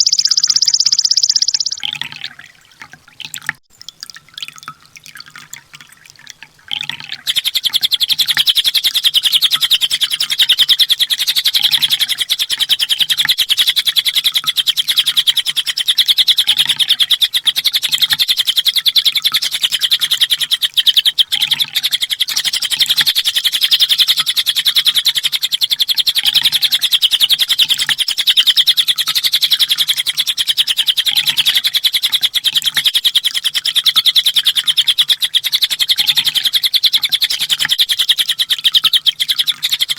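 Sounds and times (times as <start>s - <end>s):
bird chattering trill: 0.0s - 2.4s, 7.1s - 39.9s.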